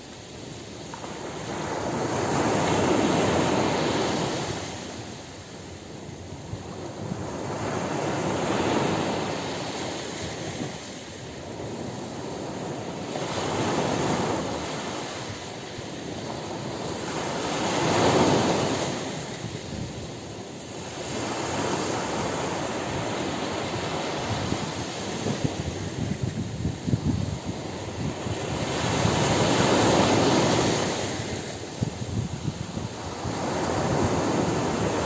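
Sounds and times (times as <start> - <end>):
ocean waves washing in and receding: 0.0 - 35.0.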